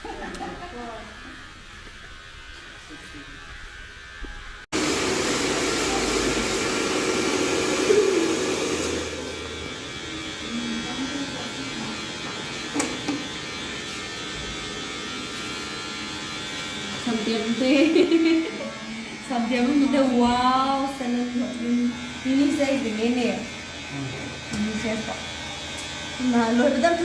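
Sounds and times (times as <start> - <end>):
electric hair clippers buzzing: 0.0 - 27.0.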